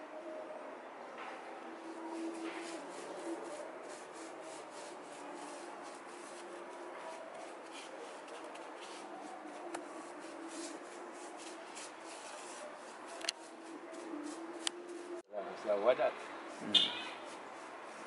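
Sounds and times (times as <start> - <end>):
paintbrush strokes: 1.3 - 18.0.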